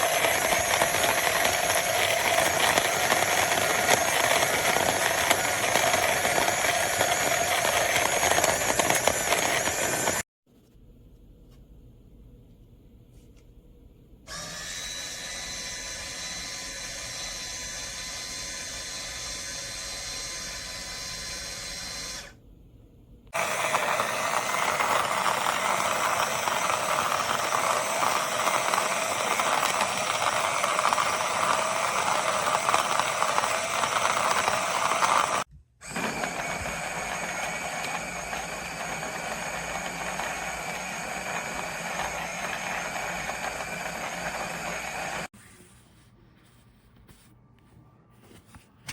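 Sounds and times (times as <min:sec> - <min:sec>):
coffee grinder motor whining: 0:00.0 - 0:10.2, 0:14.3 - 0:22.4, 0:23.4 - 0:45.3.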